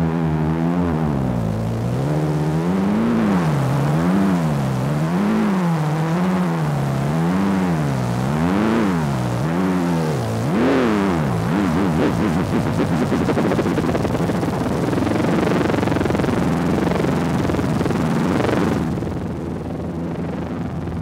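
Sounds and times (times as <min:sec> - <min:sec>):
wobbling drone tone: 0:00.0 - 0:21.0.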